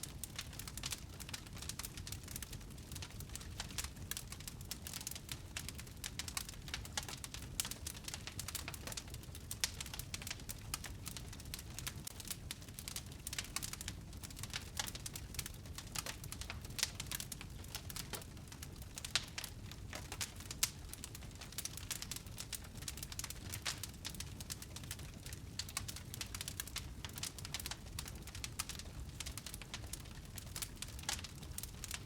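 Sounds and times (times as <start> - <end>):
low rumble of flames: 0.0 - 32.0
wood fire crackling: 0.0 - 32.0.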